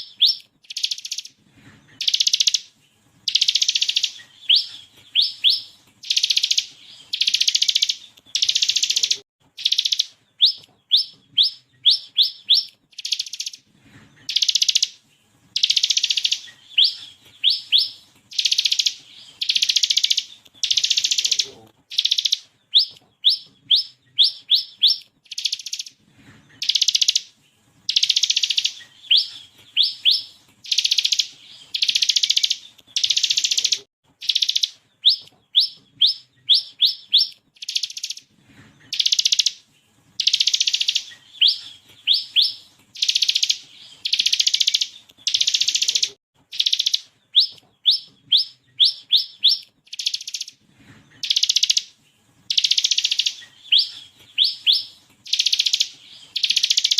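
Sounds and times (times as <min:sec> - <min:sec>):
bird singing buzzy trills and whistles: 0:00.0 - 0:56.9.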